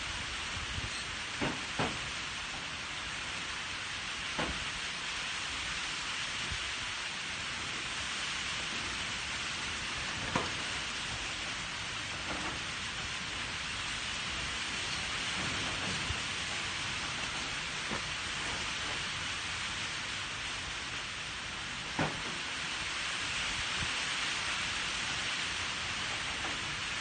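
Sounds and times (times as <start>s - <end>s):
rain hissing: 0.0s - 27.0s.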